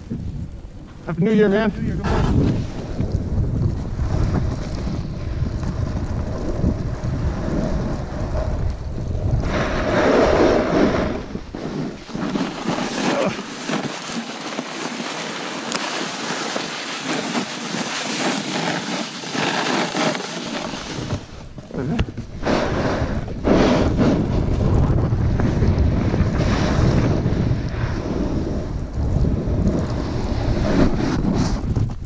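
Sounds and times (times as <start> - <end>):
wind buffeting microphone: 0.0 - 13.7, 19.4 - 32.0
snowboard scraping over snow: 0.0 - 32.0.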